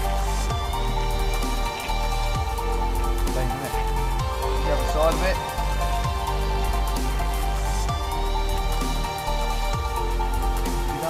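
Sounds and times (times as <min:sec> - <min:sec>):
electronic music with synth and bass: 0:00.0 - 0:11.0.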